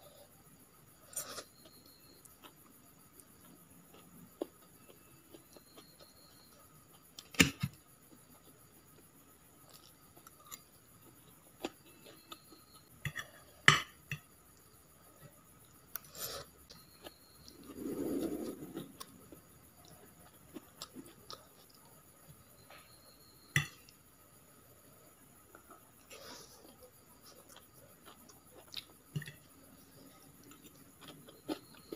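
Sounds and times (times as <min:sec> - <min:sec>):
quiet chewing: 0:01.0 - 0:07.3, 0:08.1 - 0:13.5, 0:14.5 - 0:23.0, 0:25.4 - 0:31.9.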